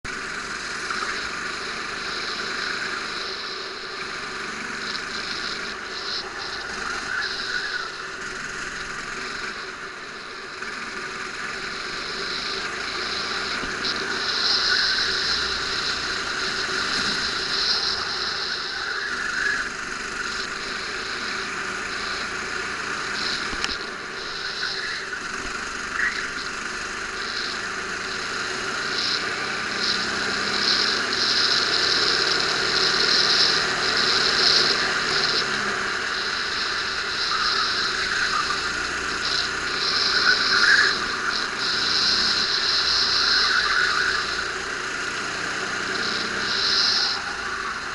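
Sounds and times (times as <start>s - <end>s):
go-kart engine running: 0.0s - 47.9s
high whine: 0.0s - 47.9s.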